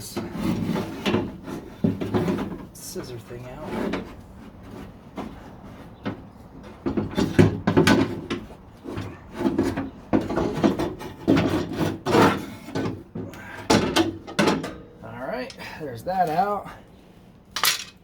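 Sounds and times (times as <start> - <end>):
metal scraping and clunking: 0.0 - 18.0.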